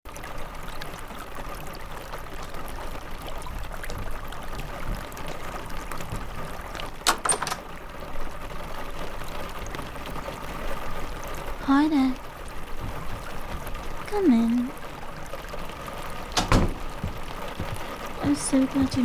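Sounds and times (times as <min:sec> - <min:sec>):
rain drip ticks: 0:00.1 - 0:19.0
steady rain hiss: 0:00.1 - 0:19.0.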